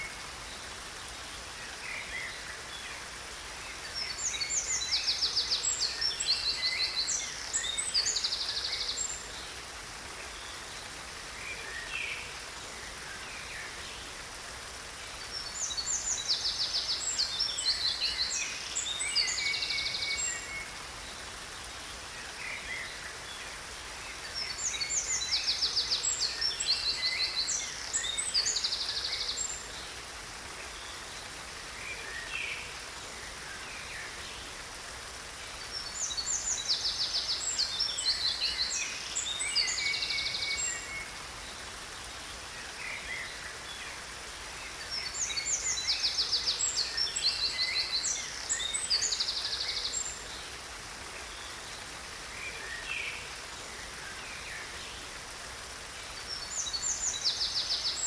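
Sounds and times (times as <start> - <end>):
waterfall hiss: 0.0 - 58.0.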